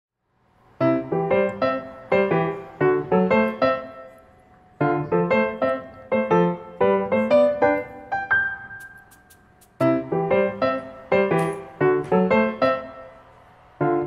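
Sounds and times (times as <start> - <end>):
piano music: 0.6 - 14.0.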